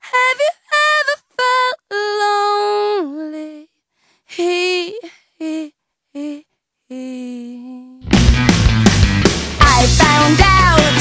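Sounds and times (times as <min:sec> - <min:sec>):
woman singing unaccompanied: 0:00.0 - 0:08.0, 0:09.6 - 0:11.0.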